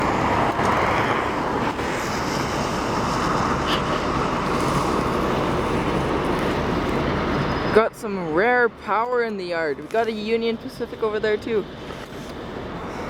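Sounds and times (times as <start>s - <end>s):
rushing wind: 0.0s - 13.0s.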